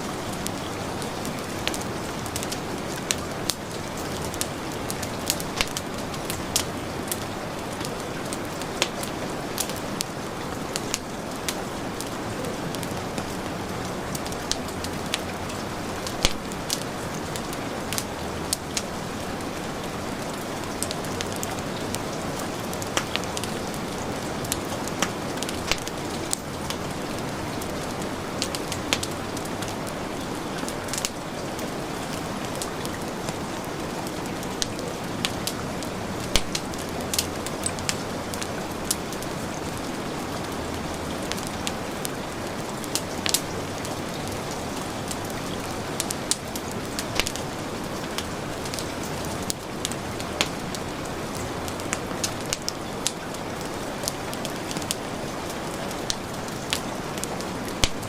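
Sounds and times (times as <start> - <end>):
heavy rain: 0.0 - 58.0
wood fire crackling: 0.0 - 58.0.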